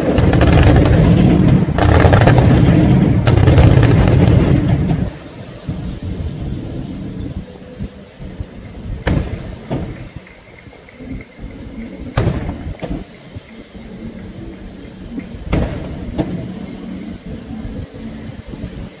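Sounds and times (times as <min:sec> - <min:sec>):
fireworks booming: 0:00.0 - 0:07.6, 0:08.2 - 0:17.6.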